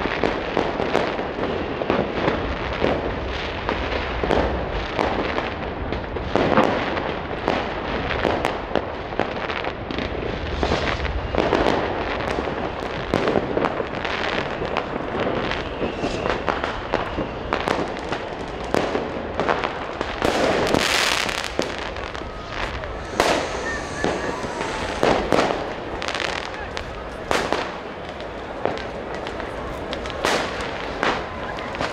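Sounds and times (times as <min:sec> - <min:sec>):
firecracker pops: 0:00.0 - 0:31.9
fireworks bangs: 0:00.0 - 0:31.9
fireworks crackle: 0:00.0 - 0:31.9.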